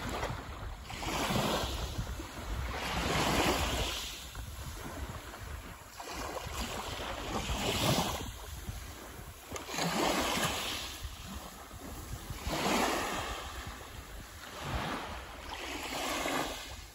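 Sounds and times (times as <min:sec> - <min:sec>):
small waves washing on pebbles: 0:00.0 - 0:16.9.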